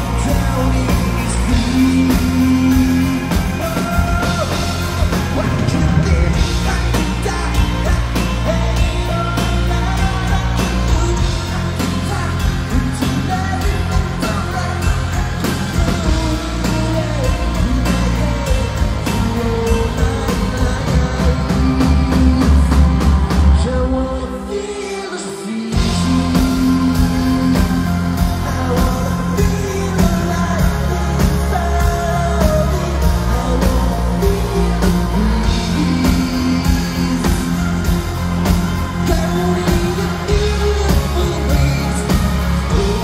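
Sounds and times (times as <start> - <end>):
live rock band with singer: 0.0 - 43.0.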